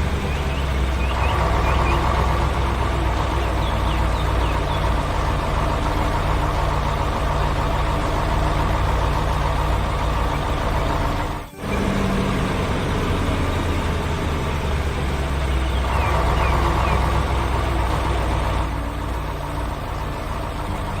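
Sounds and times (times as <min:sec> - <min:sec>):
construction machinery engine running: 0:00.0 - 0:21.0.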